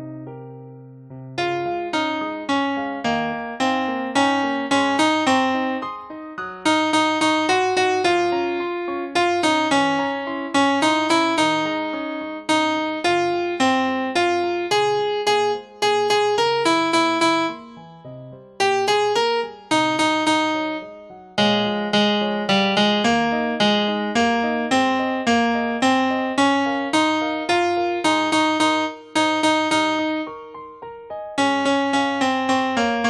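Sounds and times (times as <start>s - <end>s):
piano playing a tune: 0.0s - 33.0s.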